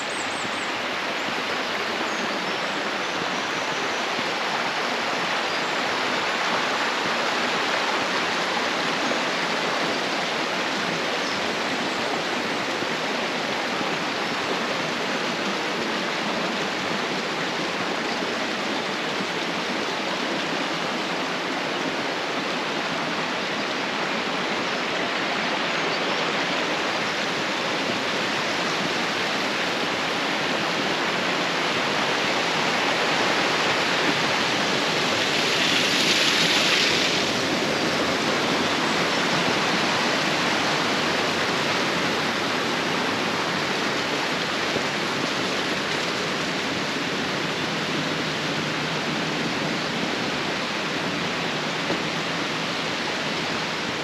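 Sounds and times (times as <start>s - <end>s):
mountain stream rushing over stones: 0.0s - 54.0s.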